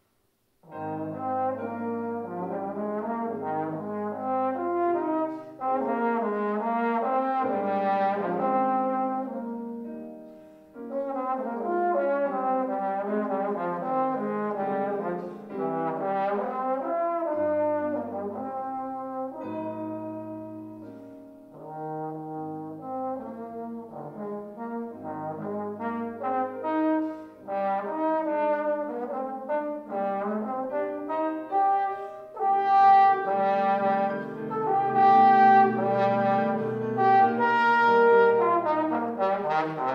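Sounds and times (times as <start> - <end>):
trombone melody: 0.6 - 39.9.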